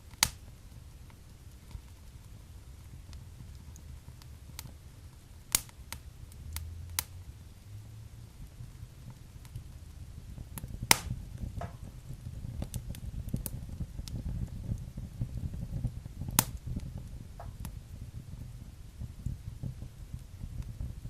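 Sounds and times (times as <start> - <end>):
fire crackling and popping: 0.0 - 21.0
low rumble of flames: 0.0 - 21.0.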